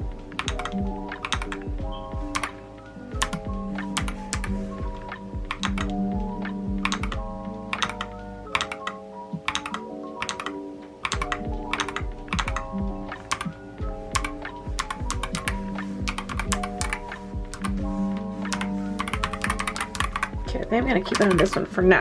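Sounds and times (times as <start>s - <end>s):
soft background music: 0.0s - 22.0s
mechanical keyboard keys clacking: 0.3s - 20.5s, 21.1s - 21.7s.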